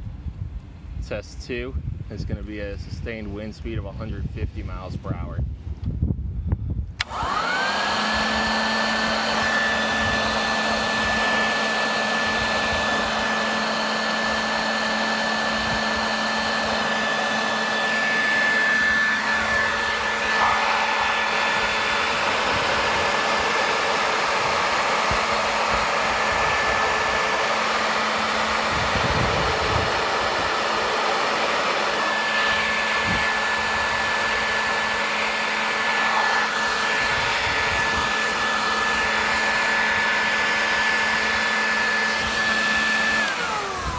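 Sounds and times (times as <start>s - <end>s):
blower motor whining: 5.8s - 43.9s
rushing blast of air: 6.8s - 43.0s.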